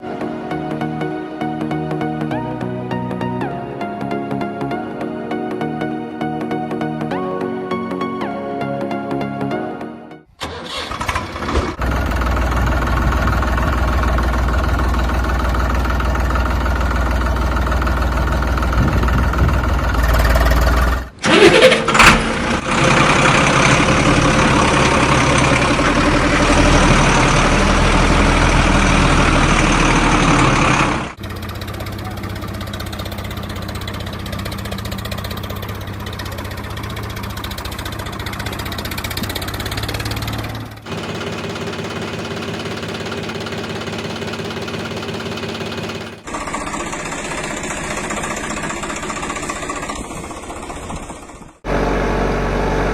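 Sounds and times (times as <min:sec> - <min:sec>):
tractor engine idling: 0:10.4 - 0:52.9.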